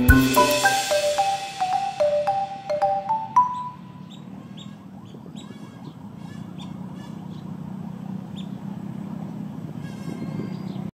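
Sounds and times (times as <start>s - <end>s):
wading birds calling: 0.0s - 10.9s.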